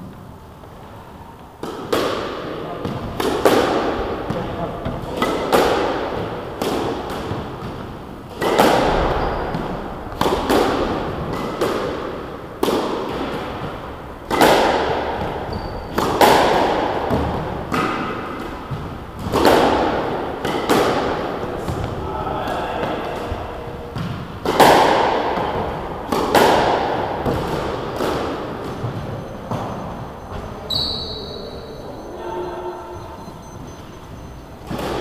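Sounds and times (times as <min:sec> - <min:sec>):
squash ball hitting rackets and walls: 0:01.5 - 0:31.7, 0:33.7 - 0:35.0.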